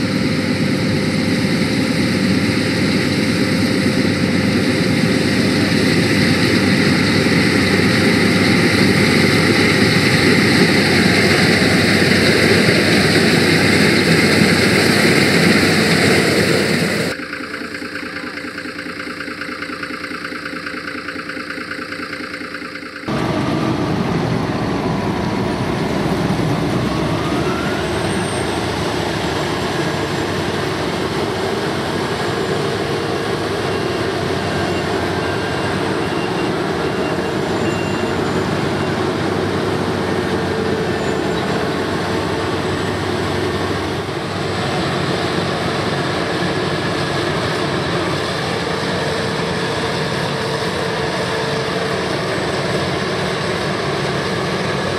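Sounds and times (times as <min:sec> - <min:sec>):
combine harvester running: 0:00.0 - 0:54.9.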